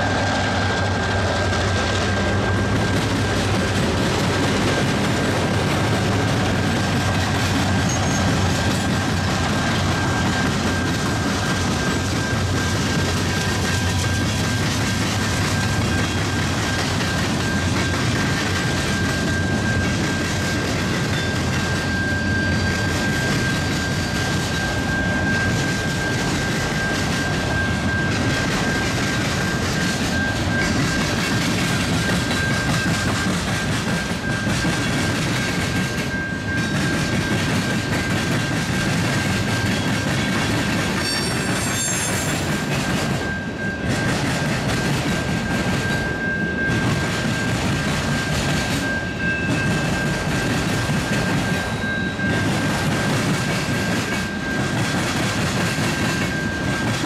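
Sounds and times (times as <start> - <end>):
high wheel squeal: 0.0 - 57.0
train wheels rumbling on track: 0.0 - 57.0.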